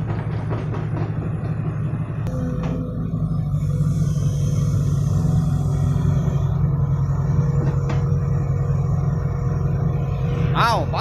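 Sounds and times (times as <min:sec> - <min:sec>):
dump truck diesel engine straining: 0:00.0 - 0:11.0.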